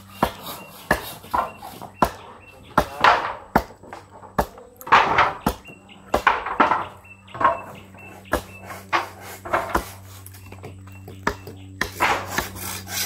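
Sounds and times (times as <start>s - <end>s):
hammering on wooden boards: 0.0s - 13.0s.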